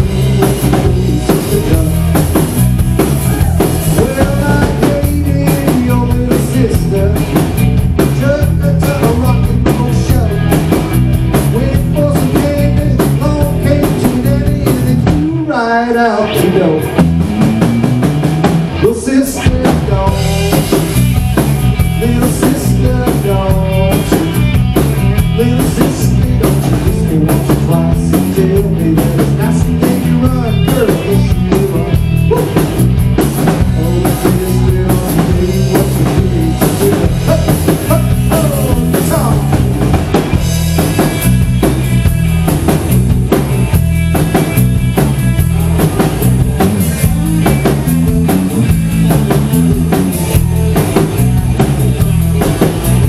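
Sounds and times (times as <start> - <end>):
drum kit steady beat: 0.0 - 15.5, 16.4 - 53.0
electric bass: 0.0 - 53.0
electric guitar lead: 0.0 - 53.0.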